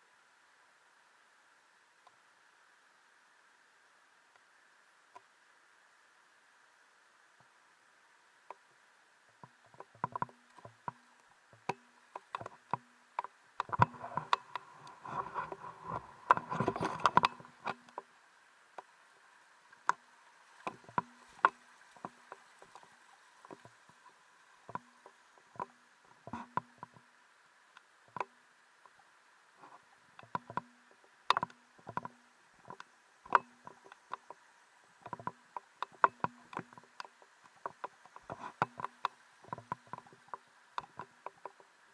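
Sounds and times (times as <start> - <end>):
faint steady hiss: 0.0 - 41.9.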